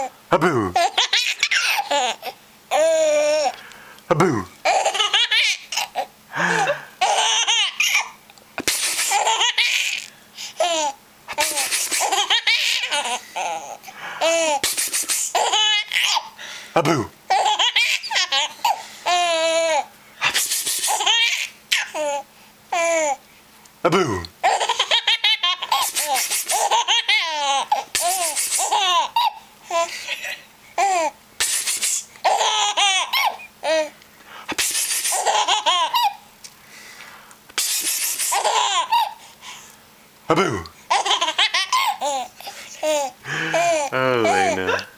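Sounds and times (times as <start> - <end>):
baby giggling and laughing: 0.0 - 3.5, 4.6 - 16.4, 17.3 - 23.2, 24.4 - 33.9, 34.6 - 36.2, 37.7 - 39.2, 40.9 - 44.9.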